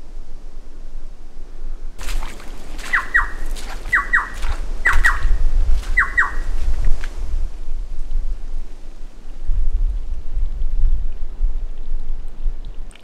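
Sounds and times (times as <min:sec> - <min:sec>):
low wind rumble on microphone: 0:00.0 - 0:13.0.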